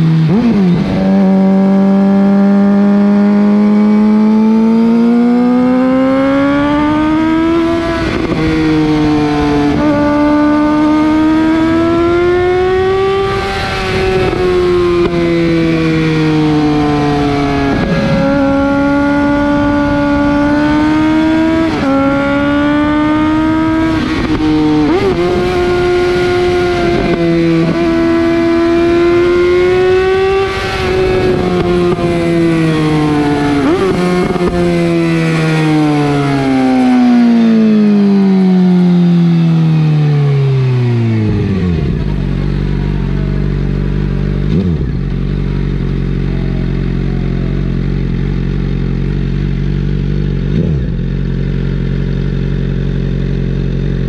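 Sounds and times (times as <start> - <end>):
motorcycle exhaust accelerating: 0.0 - 54.0.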